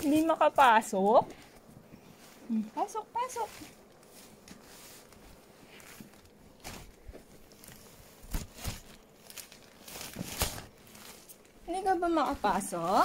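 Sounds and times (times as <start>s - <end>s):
fabric tunnel rustling: 0.0s - 13.0s.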